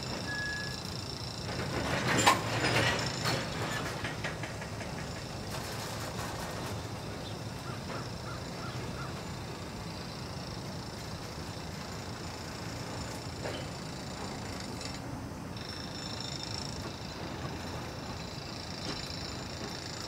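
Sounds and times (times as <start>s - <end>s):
diesel train rumbling: 0.0s - 20.0s.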